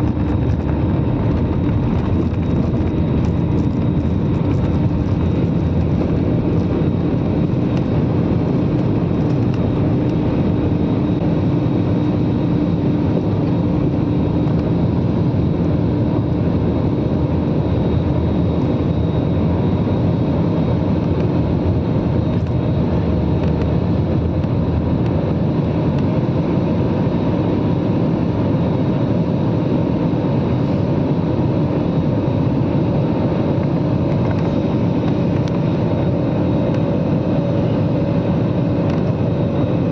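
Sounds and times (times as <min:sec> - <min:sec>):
jet engines heard from cabin: 0:00.0 - 0:39.9.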